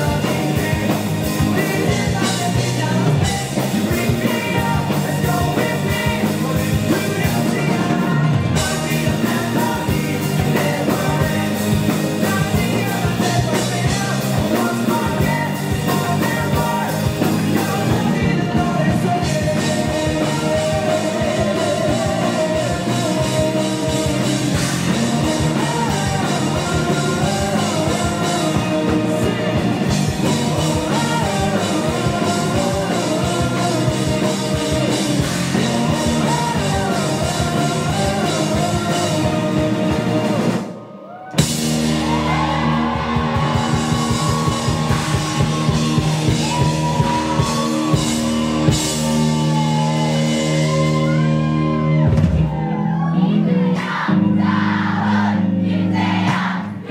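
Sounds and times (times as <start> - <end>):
person singing: 0.0 - 54.6
live rock band playing: 0.0 - 56.9.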